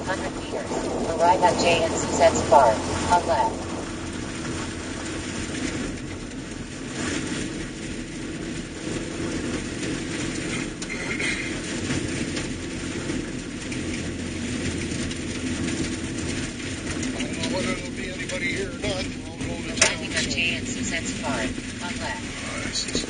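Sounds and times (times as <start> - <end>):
cab rattling: 0.0 - 23.0
vehicle road noise: 0.0 - 23.0.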